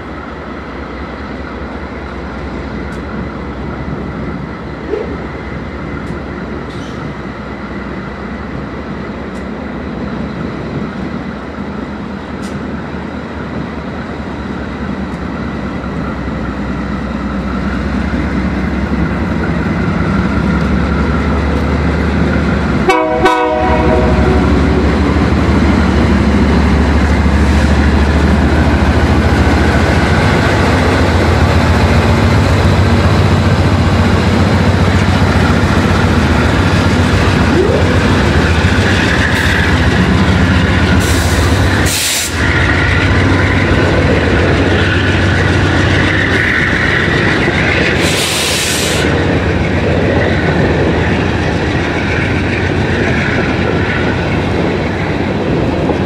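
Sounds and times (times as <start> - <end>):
diesel locomotive hum: 0.0 - 56.0
train wheels clattering on rails: 0.0 - 56.0.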